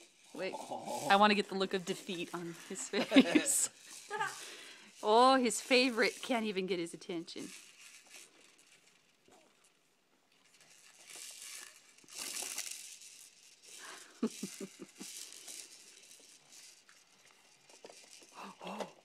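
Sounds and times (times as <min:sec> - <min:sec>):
plastic toys rattling and clicking: 0:00.0 - 0:19.0.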